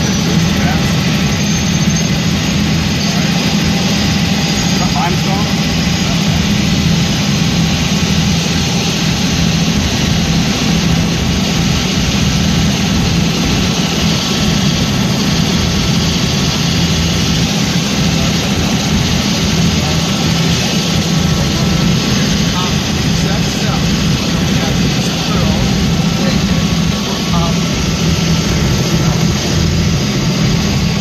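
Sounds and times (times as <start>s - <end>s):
helicopter engine and rotors droning: 0.0s - 31.0s.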